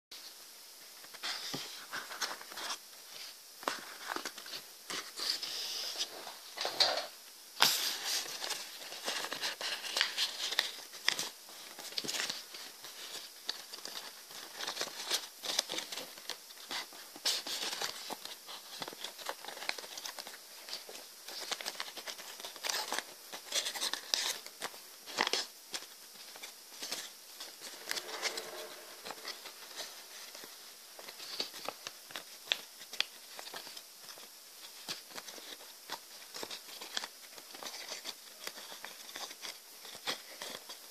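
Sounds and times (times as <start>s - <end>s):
paper rustling and crinkling: 1.0s - 40.9s.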